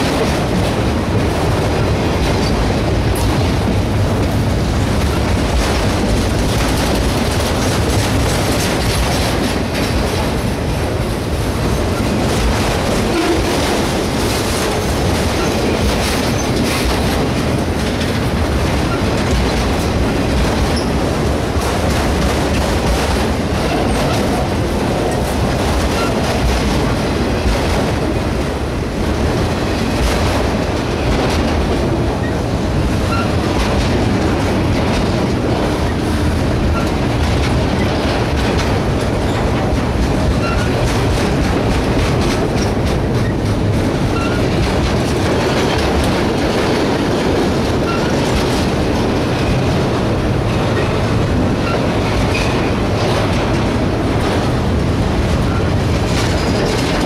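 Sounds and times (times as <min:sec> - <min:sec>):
clickety-clack over rail joints: 0:00.0 - 0:57.0
steel wheels rumbling on rails: 0:00.0 - 0:57.0.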